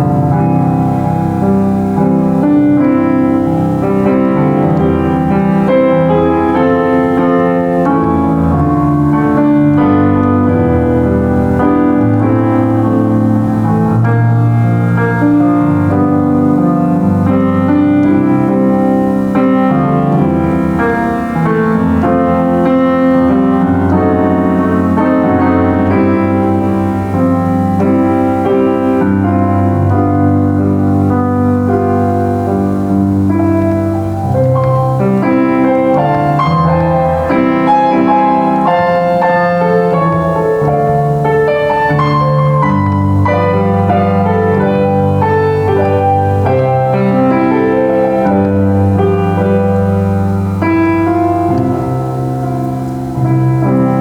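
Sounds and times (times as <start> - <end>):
solo piano hymn-style tune: 0.0 - 54.0.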